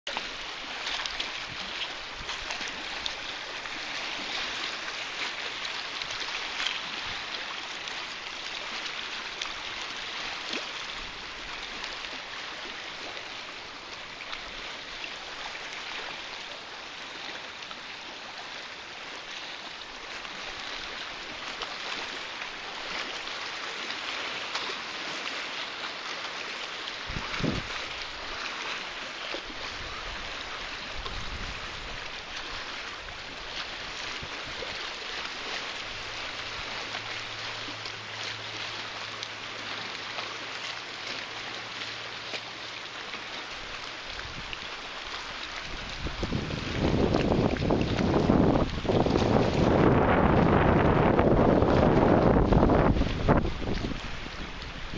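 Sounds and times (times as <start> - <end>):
faint water splashes: 0.1 - 54.9
water trickling along kayak hull: 0.1 - 54.9.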